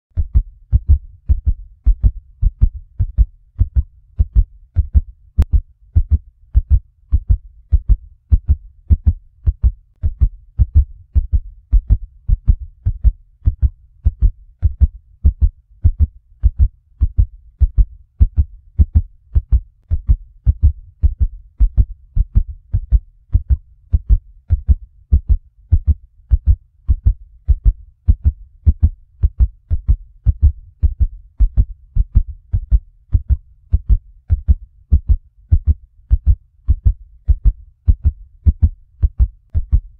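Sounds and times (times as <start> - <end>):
heartbeat thumps: 0.1 - 39.9.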